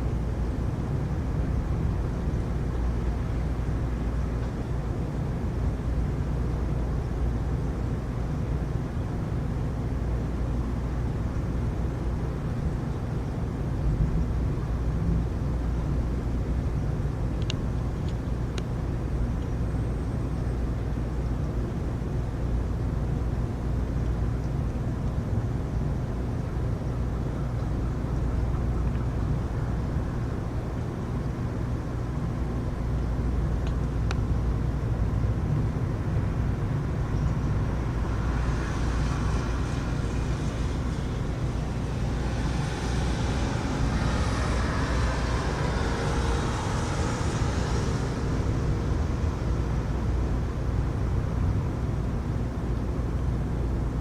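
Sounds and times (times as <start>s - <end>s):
rainstorm rumble and hiss: 0.0s - 54.0s.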